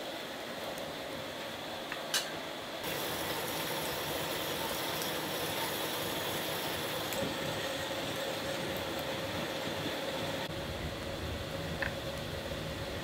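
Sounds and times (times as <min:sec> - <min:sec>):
electric fans whirring: 0:00.0 - 0:13.0.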